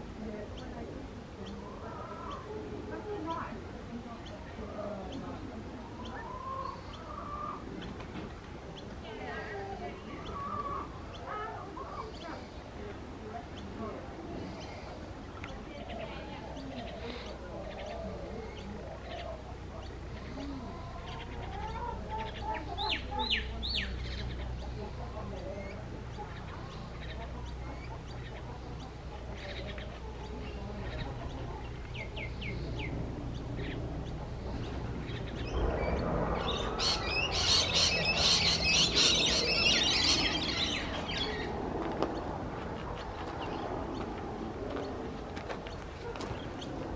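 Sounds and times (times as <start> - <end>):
low steady hum: 0.0 - 46.9
birds chirping and calling: 0.2 - 46.9
chickens clucking: 4.2 - 46.9.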